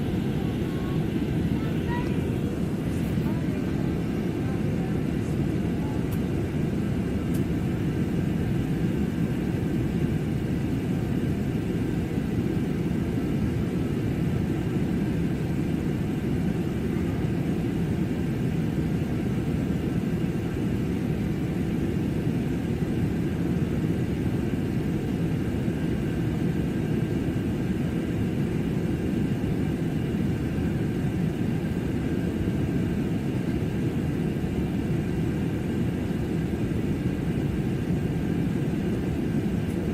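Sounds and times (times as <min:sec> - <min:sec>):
airliner engine and airflow rumble: 0:00.0 - 0:39.9
faint high hum: 0:00.0 - 0:39.9.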